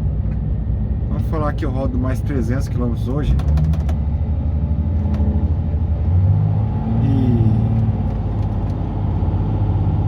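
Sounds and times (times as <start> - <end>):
truck diesel engine humming: 0.0 - 10.0.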